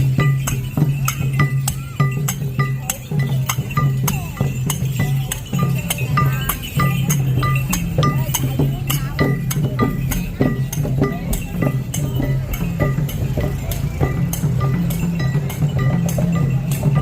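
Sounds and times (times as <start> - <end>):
metal percussion clinking: 0.0 - 17.0.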